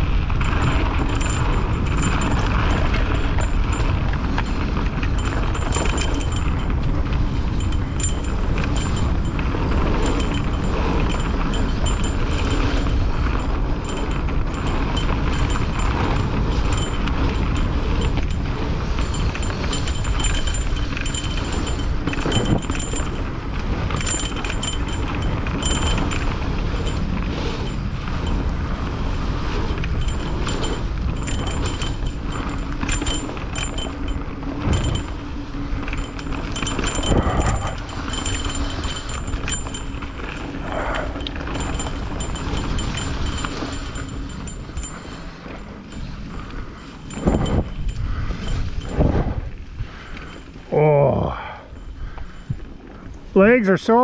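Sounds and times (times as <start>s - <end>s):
rapid high ticking: 0.0s - 49.3s
bike tyres rumbling on dirt: 0.0s - 54.0s
wind on microphone: 0.0s - 54.0s.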